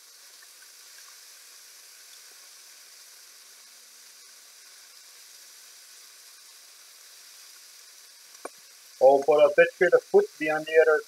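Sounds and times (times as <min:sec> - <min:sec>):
sausages sizzling in a frying pan: 0:00.0 - 0:11.0.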